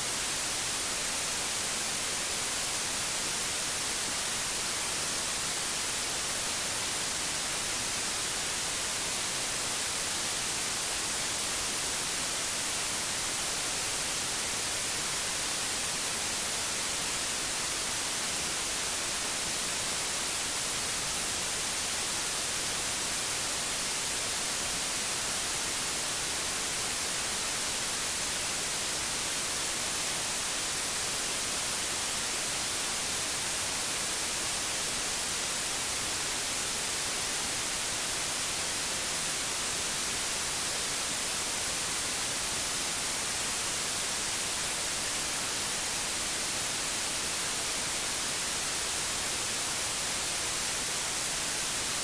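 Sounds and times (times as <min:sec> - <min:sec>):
steady white noise hiss: 0:00.0 - 0:52.0.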